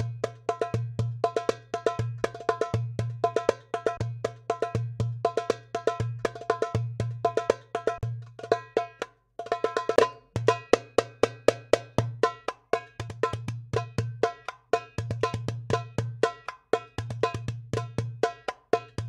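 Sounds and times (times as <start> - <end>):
darbuka strokes: 0.0 - 19.0.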